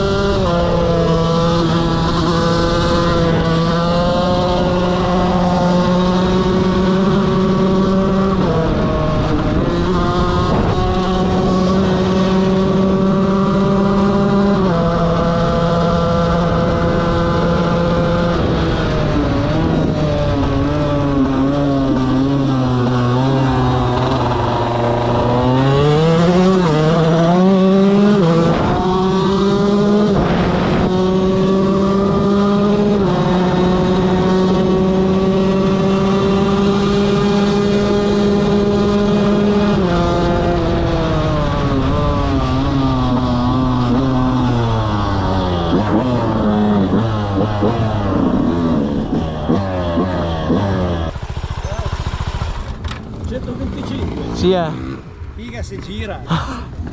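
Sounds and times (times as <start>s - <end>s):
motorcycle engine revving high: 0.0s - 56.9s.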